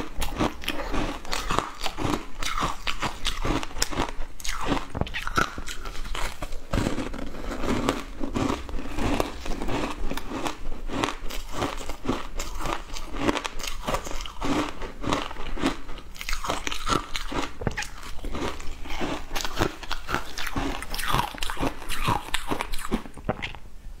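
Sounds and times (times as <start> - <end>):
ice crunching between teeth: 0.0 - 23.6.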